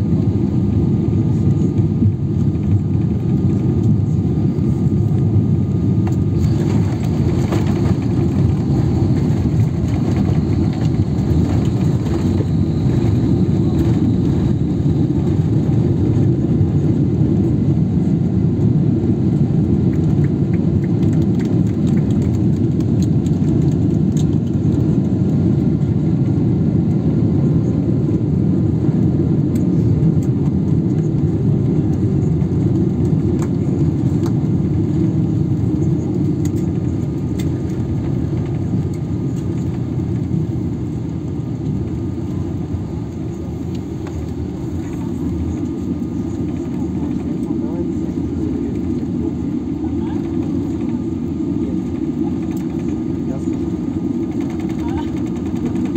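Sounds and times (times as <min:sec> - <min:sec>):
low rumble of engines and wheels: 0:00.0 - 0:55.9.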